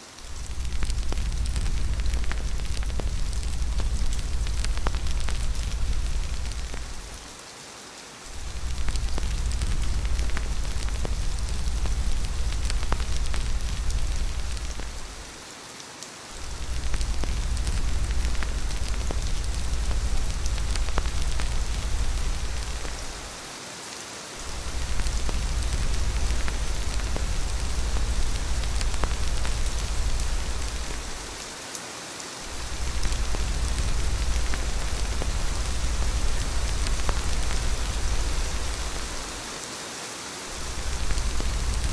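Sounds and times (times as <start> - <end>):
rain pattering: 0.0 - 41.9
deep low rumble: 0.3 - 7.2, 8.4 - 15.3, 16.4 - 23.4, 24.4 - 31.4, 32.5 - 39.4, 40.6 - 41.9.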